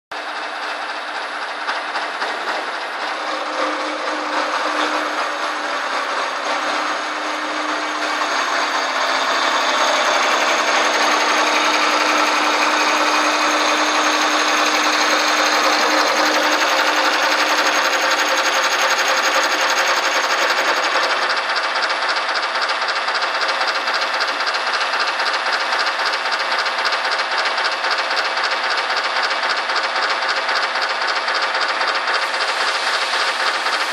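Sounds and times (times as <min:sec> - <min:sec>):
machine hum: 0:00.2 - 0:27.2, 0:32.2 - 0:33.9
milling machine whirring: 0:00.2 - 0:33.9.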